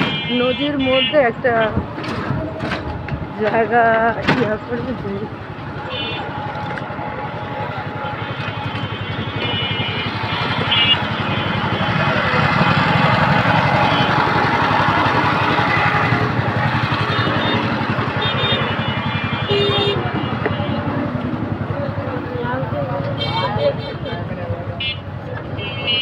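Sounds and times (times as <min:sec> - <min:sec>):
motorbike and rickshaw engines: 0:00.0 - 0:26.0.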